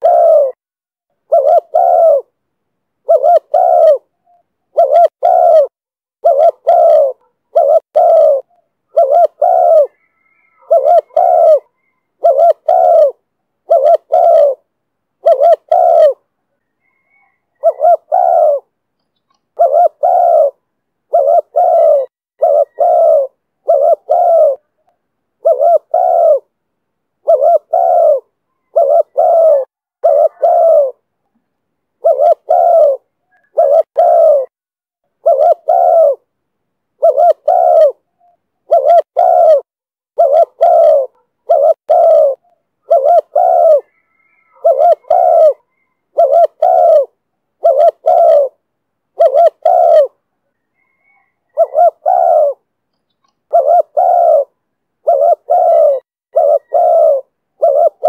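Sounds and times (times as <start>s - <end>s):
dove cooing: 0.0s - 0.6s, 1.2s - 2.4s, 3.0s - 26.6s, 27.2s - 31.1s, 32.0s - 34.6s, 35.2s - 36.3s, 37.0s - 58.0s.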